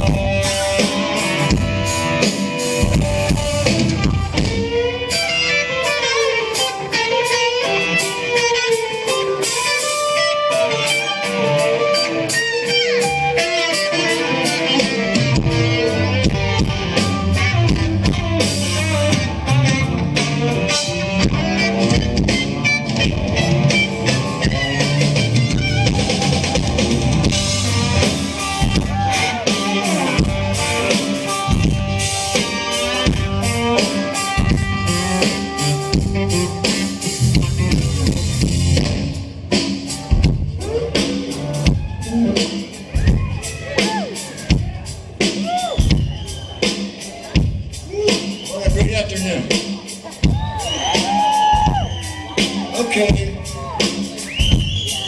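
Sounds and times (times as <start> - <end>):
bass guitar: 0.0 - 55.0
drum kit: 0.0 - 55.0
electric guitar lead lines: 0.0 - 55.0
rhythm guitar: 0.0 - 55.0.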